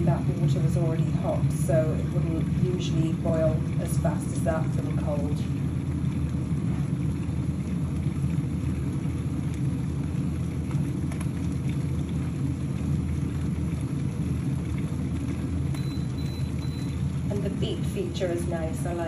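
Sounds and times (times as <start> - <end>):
electric kettle rumbling: 0.0 - 19.0.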